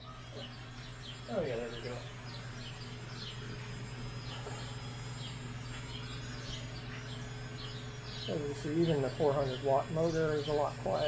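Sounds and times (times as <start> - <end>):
birds chirping: 0.0 - 11.0
router spindle motor humming: 0.0 - 11.0.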